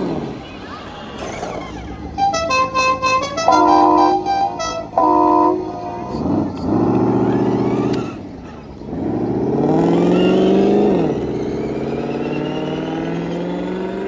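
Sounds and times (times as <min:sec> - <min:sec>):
simulated engine revving from speaker: 0:01.2 - 0:14.0.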